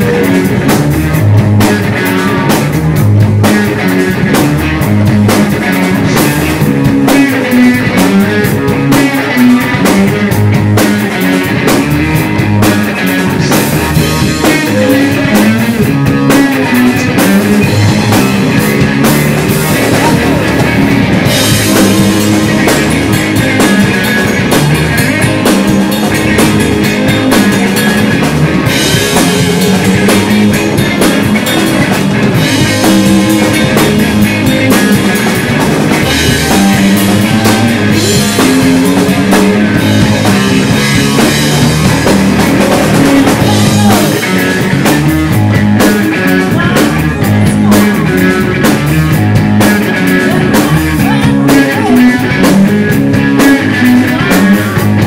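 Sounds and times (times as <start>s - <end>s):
bass guitar: 0.0s - 55.0s
distorted electric guitar: 0.0s - 55.0s
drum kit: 0.0s - 55.0s.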